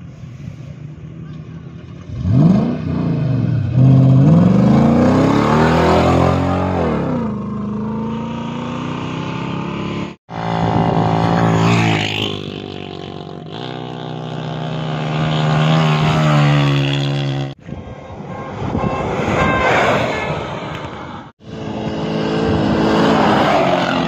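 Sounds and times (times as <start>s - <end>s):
rally vehicle engines revving: 1.2s - 24.0s.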